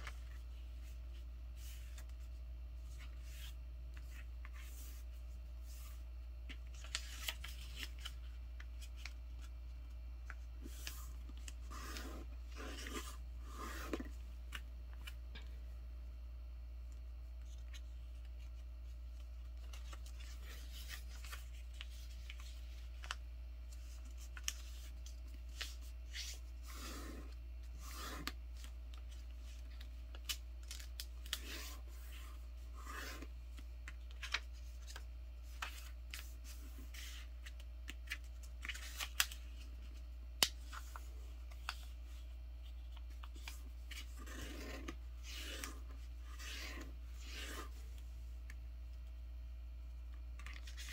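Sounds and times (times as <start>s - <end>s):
paper rustling and creasing: 0.0s - 15.2s, 17.4s - 47.8s
steady low hum: 0.0s - 50.9s.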